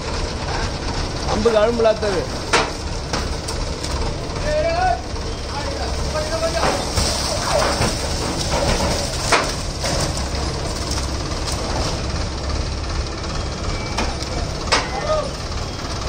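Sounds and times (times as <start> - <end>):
tractor diesel engine running: 0.0 - 16.0
trolley load knocks and crackles: 0.0 - 16.0.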